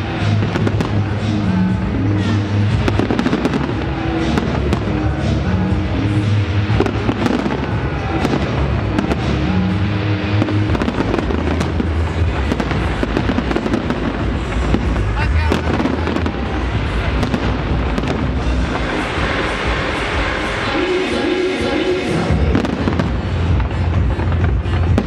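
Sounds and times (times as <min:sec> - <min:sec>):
fireworks bangs and crackles: 0:00.0 - 0:25.0
music with steady bass: 0:00.0 - 0:25.0.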